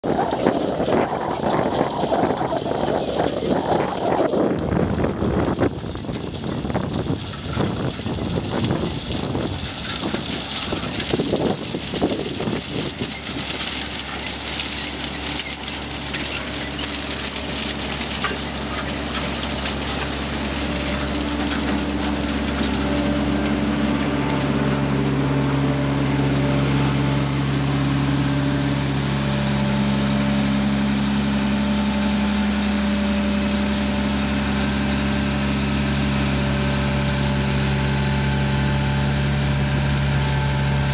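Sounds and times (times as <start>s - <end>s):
harvester diesel engine running: 0.0s - 40.9s.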